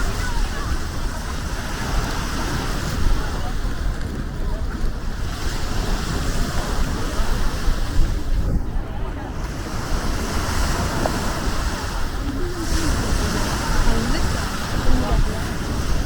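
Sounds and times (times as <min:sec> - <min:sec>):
sea waves washing onto beach: 0:00.0 - 0:16.0
wind buffeting microphone: 0:00.0 - 0:16.0.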